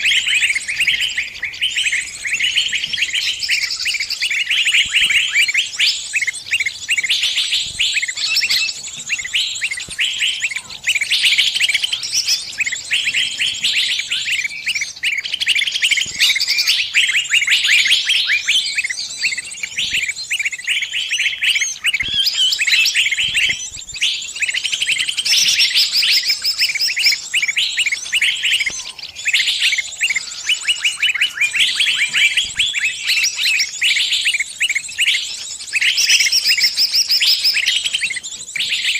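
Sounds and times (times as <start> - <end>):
small bird distress chirping: 0.0 - 38.9.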